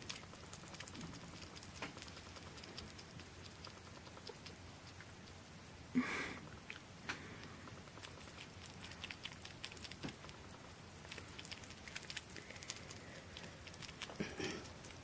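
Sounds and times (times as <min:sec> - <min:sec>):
small animal chewing crunchily: 0:00.0 - 0:05.9, 0:06.5 - 0:15.0.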